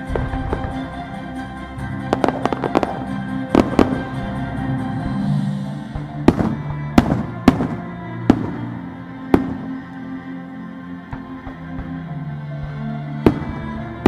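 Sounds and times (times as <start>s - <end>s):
fireworks bursting with sharp bangs: 0.0s - 10.0s, 11.1s - 14.0s
show music: 0.0s - 14.0s.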